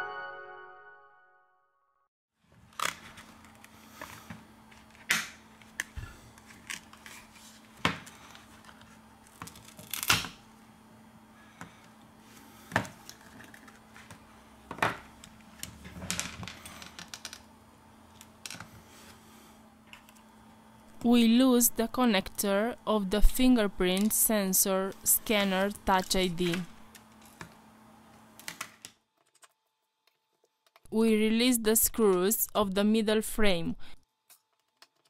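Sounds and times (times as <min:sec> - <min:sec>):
faint steady hum: 0:02.8 - 0:35.0.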